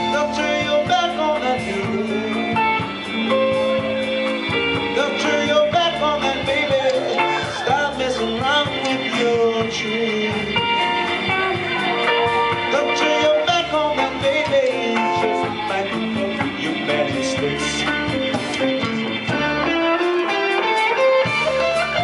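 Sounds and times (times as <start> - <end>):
lead line with bent notes: 0.0 - 22.0
live blues-rock band playing: 0.0 - 22.0.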